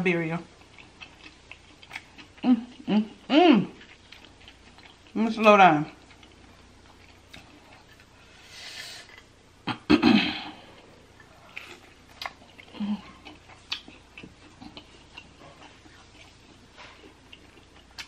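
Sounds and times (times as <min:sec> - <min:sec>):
crunchy chewing: 0:00.5 - 0:09.3, 0:11.1 - 0:18.0.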